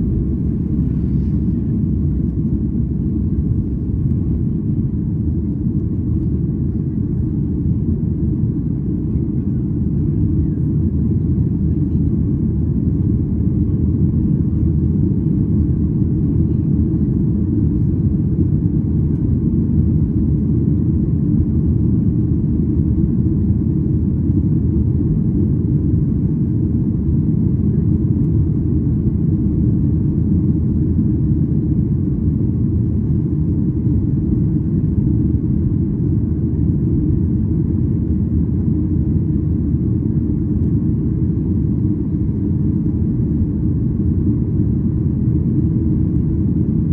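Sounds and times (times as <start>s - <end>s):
airliner cabin rumble: 0.0s - 46.9s.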